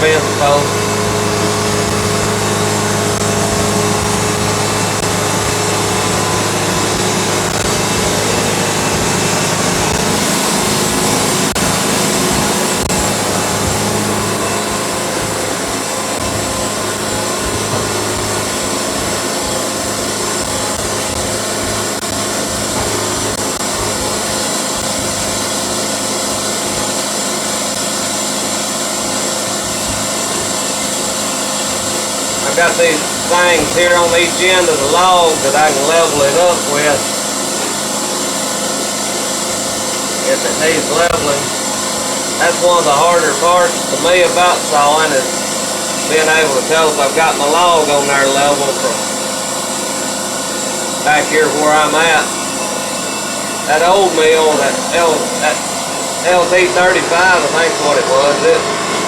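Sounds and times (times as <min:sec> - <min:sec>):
band saw cutting log: 0:00.0 - 0:59.0
mill engine hum: 0:00.0 - 0:59.0.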